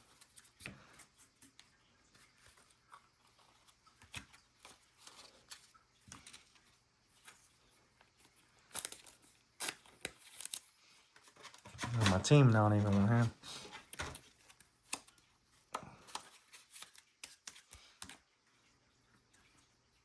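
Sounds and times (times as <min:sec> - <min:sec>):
cards and wrappers rustling: 0:00.0 - 0:18.7.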